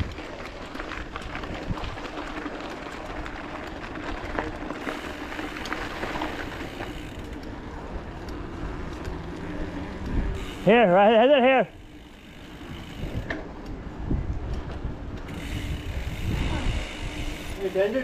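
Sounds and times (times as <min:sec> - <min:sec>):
bike clicks and rattles: 0:00.0 - 0:18.0
bike rolling on dirt trail: 0:00.0 - 0:18.0.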